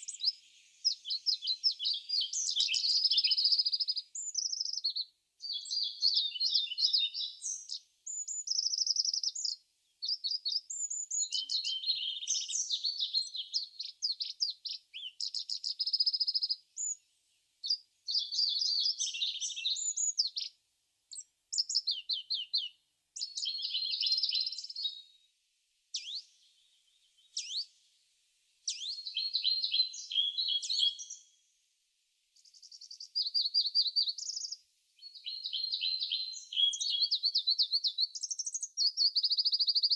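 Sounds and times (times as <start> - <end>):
songbirds singing: 0.0 - 31.5, 32.1 - 39.9.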